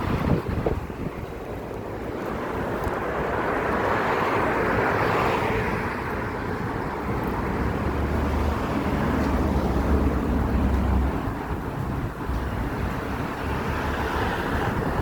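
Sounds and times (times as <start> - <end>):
strong gusty wind: 0.0 - 15.0
wind buffeting microphone: 0.0 - 15.0.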